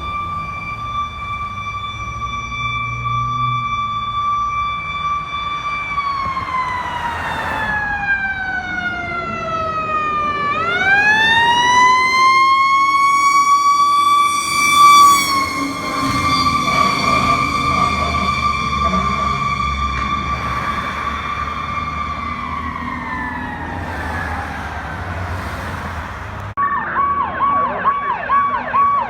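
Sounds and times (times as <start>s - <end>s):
fire engine siren wailing: 0.0s - 29.0s.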